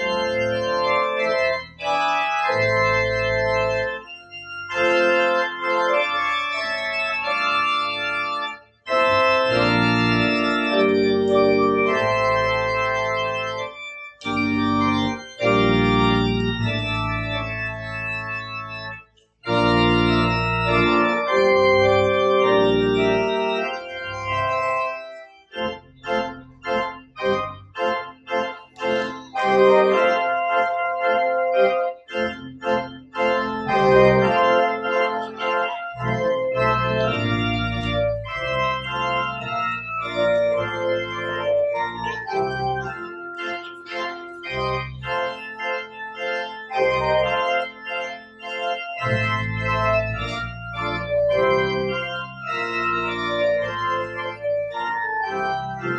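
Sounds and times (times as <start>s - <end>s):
pipe organ playing chords: 0.0s - 55.9s.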